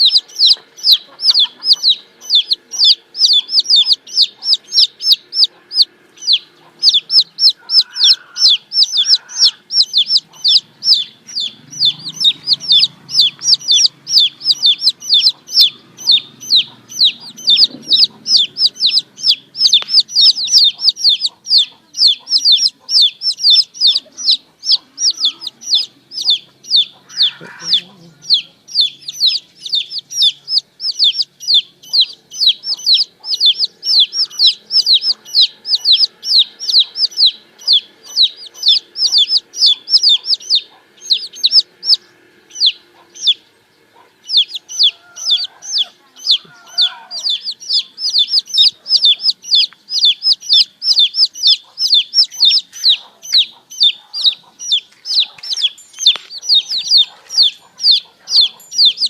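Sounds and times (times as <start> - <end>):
baby chicks peeping: 0.0 - 59.0.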